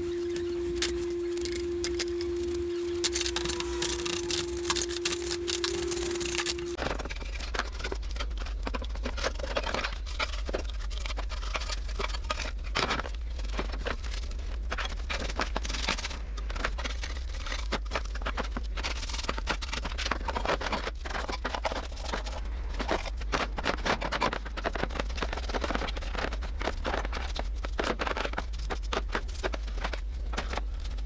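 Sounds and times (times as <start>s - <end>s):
scraping and clicking on metal toy: 0.0s - 31.0s
steady low hum: 0.0s - 31.0s.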